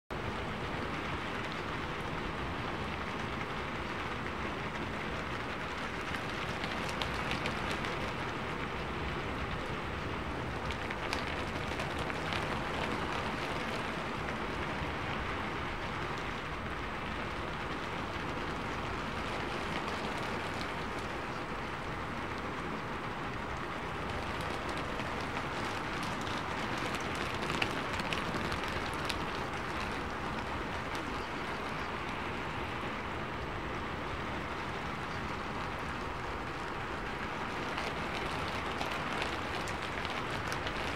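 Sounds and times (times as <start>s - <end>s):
steady rain: 0.1s - 40.9s.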